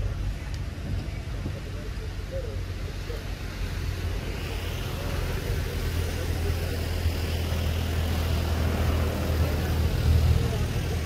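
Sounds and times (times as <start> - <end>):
low engine rumble: 0.0 - 11.0
outdoor background hiss: 0.0 - 11.0.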